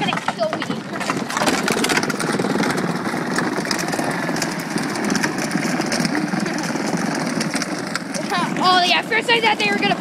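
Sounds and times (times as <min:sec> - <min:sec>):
ride-on toy truck rattling on concrete: 0:00.0 - 0:10.0.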